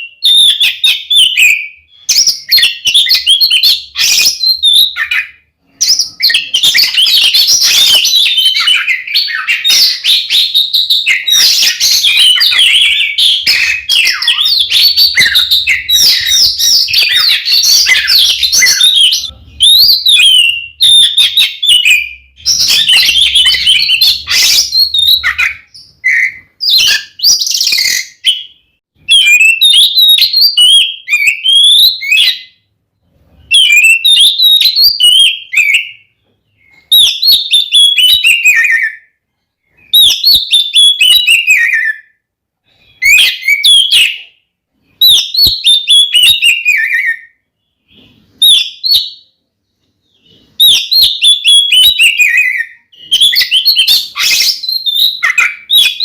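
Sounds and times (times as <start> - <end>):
bird singing whistles and trills: 0.0 - 32.7, 33.3 - 49.4, 50.0 - 56.0.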